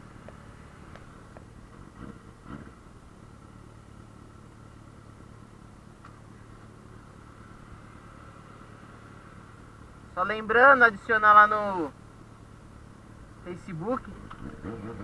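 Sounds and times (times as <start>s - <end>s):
motorcycle engine running: 0.0s - 10.2s, 12.0s - 15.0s.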